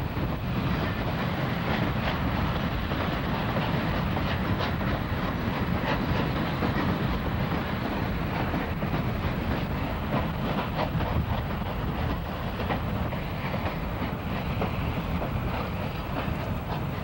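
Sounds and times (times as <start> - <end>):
train rumbling over a bridge: 0.0 - 17.0.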